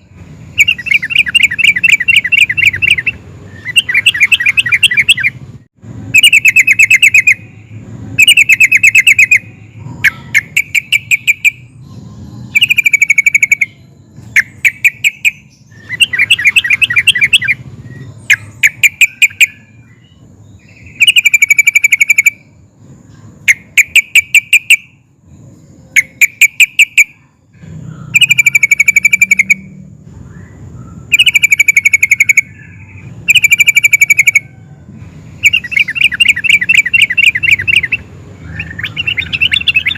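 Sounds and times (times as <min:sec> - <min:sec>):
bird chattering trills: 0:00.5 - 0:05.4, 0:06.1 - 0:07.6, 0:08.2 - 0:24.9, 0:25.9 - 0:29.8, 0:30.4 - 0:34.6, 0:35.4 - 0:39.9.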